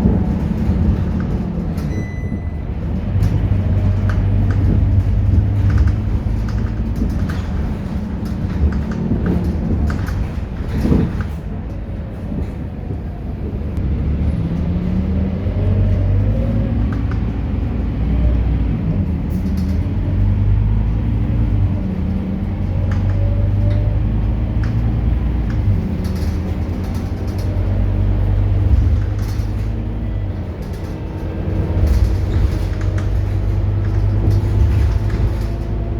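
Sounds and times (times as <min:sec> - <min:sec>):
bus diesel engine humming: 0:00.0 - 0:35.9.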